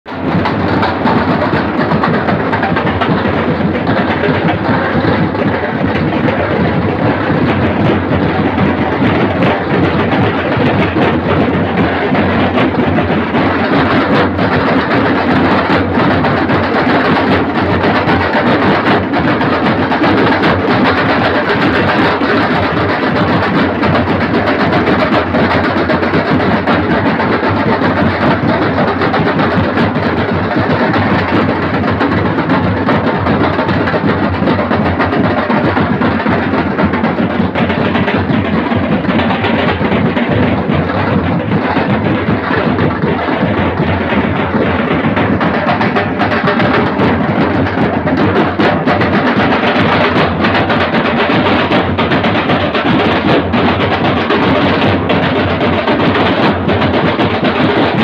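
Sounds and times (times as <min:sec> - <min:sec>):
drums: 0:00.0 - 0:58.0
street band playing loudly: 0:00.1 - 0:58.0.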